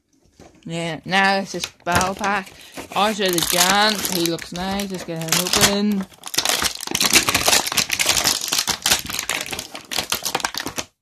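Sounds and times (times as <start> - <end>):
plastic wrapping crinkling: 1.1 - 11.0.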